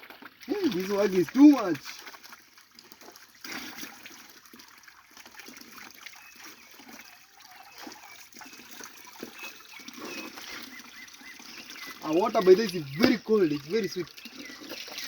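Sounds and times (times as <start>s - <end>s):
stream trickling: 0.0s - 15.0s
water splashes: 0.0s - 15.0s.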